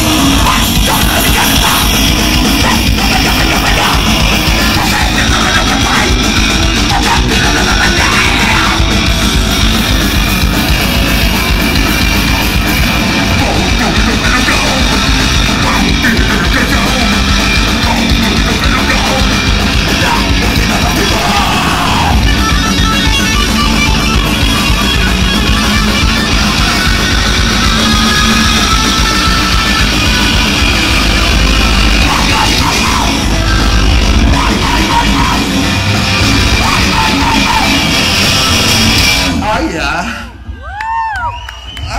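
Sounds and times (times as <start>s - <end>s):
person singing: 0.0s - 9.1s, 13.2s - 39.5s
distorted electric guitar: 0.0s - 40.8s
bass guitar: 0.0s - 41.9s
drums: 0.0s - 41.9s.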